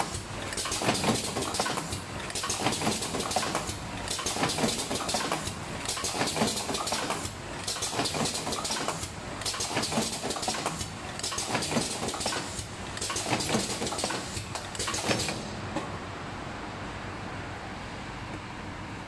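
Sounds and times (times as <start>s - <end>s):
machine clattering: 0.0s - 15.6s.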